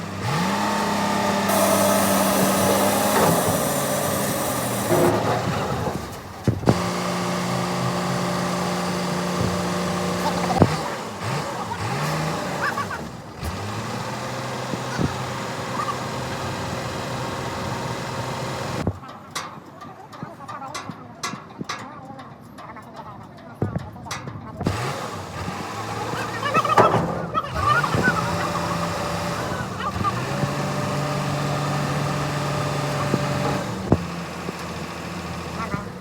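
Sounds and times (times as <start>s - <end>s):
low motor hum: 0.0s - 19.0s, 24.7s - 36.0s
workshop noise: 0.0s - 36.0s.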